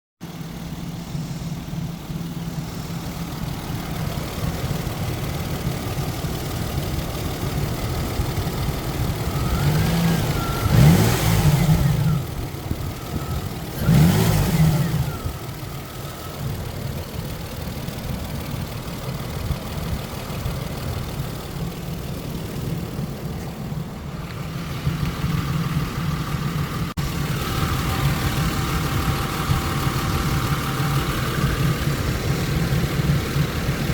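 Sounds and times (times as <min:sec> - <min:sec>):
car engine idling and revving: 0:00.2 - 0:33.9.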